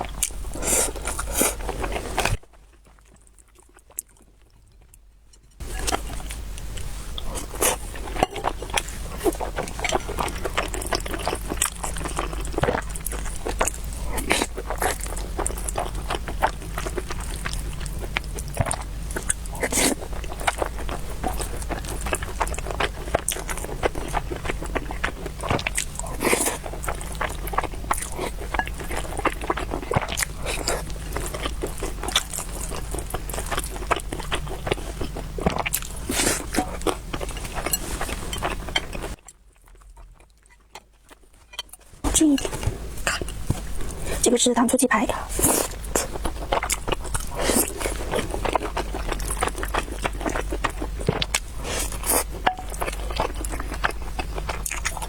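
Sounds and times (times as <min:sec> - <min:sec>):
chewing and biting: 0:05.7 - 0:44.2, 0:45.3 - 0:55.0.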